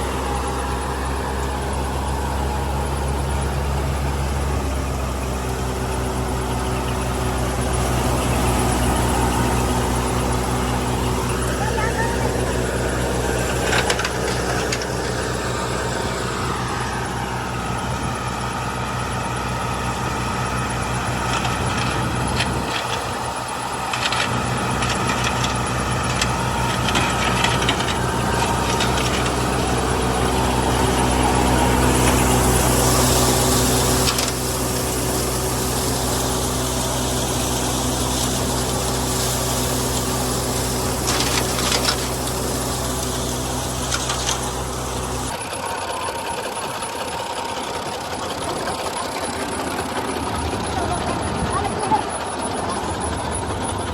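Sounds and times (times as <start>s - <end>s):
combine harvester engine and threshing: 0.0s - 53.9s.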